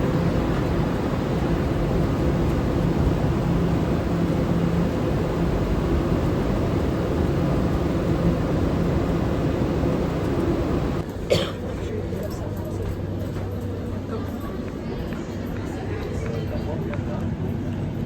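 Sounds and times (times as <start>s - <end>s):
train mechanical drone: 0.0s - 18.0s.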